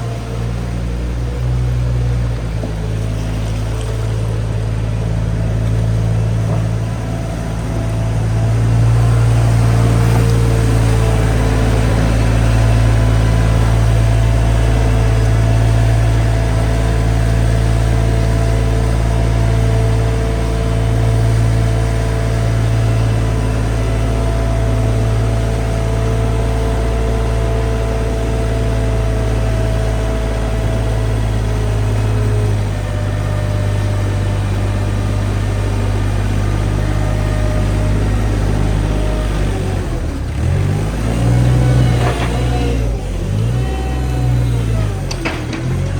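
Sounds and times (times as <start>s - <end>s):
engine humming steadily: 0.0s - 45.9s.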